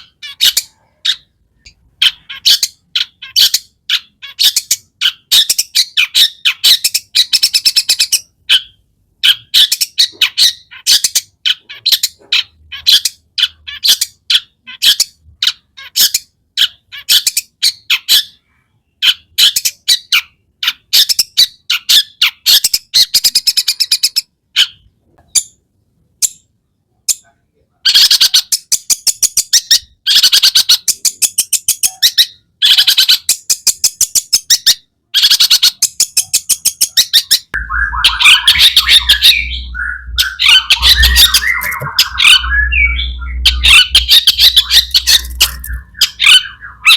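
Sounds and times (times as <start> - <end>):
bird singing chattering song: 0.0 - 25.6, 27.9 - 46.9.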